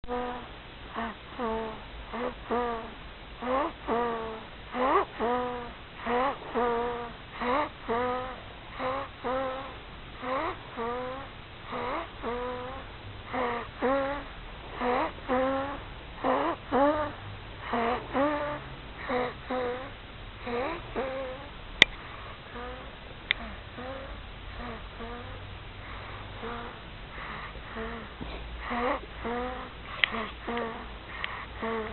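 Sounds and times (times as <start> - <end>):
baby snoring: 0.0 - 31.9.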